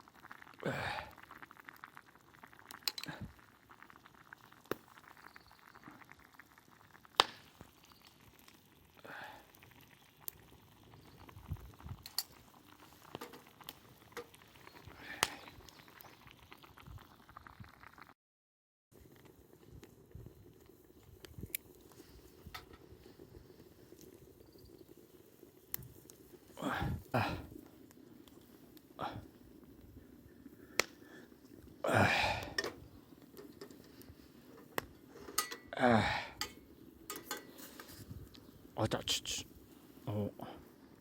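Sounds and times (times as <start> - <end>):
stew bubbling in a pot: 0.0 - 18.2, 19.0 - 41.0.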